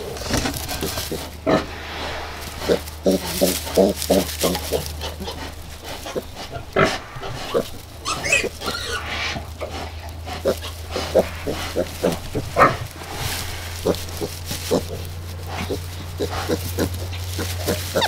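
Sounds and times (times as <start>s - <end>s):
pigs grunting: 0.0s - 18.0s
pigs squealing: 0.0s - 18.0s
steady low hum: 0.0s - 18.0s.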